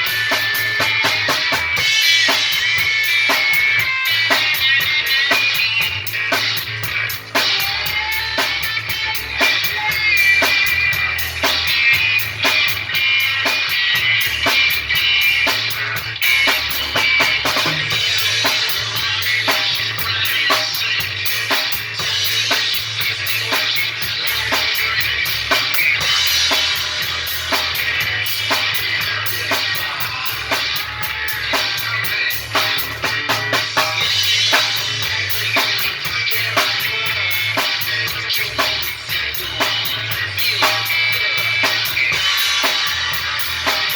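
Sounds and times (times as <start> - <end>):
drum kit beat: 0.0 - 43.9
instrumental rock music: 0.0 - 43.9.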